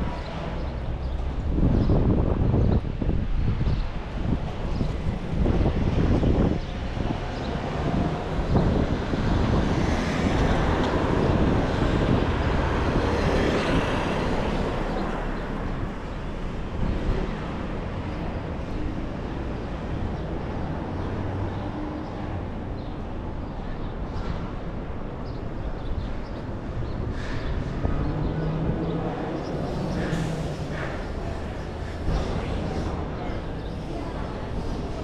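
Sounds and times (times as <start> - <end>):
steady traffic rumble: 0.0 - 35.0.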